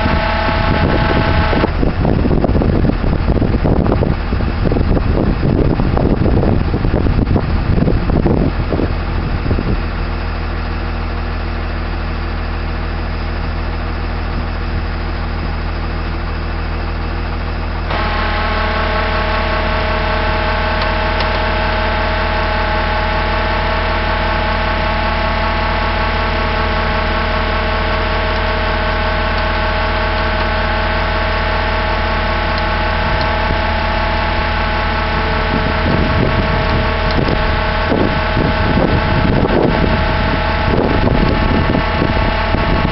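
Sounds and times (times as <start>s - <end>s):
truck engine running: 0.0s - 42.9s
winch drive whine: 0.0s - 42.9s.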